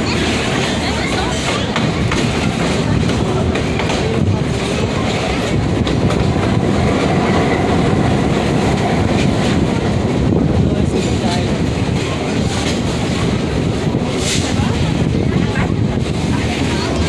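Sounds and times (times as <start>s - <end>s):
train wheels clickety-clack: 0.0s - 17.0s.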